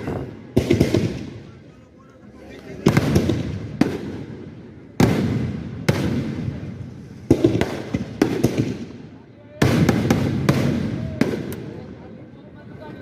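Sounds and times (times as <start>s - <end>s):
fireworks bangs and crackling: 0.0s - 1.8s, 2.4s - 12.2s.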